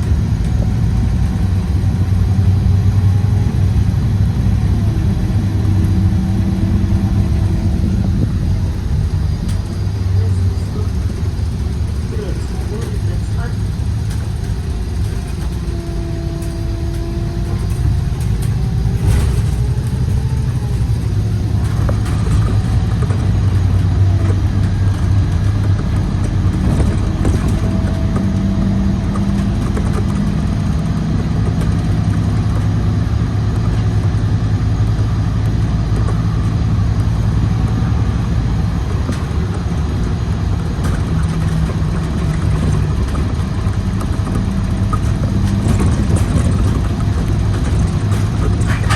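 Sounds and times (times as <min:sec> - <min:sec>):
city bus engine driving: 0:00.0 - 0:48.9
road noise: 0:00.0 - 0:48.9.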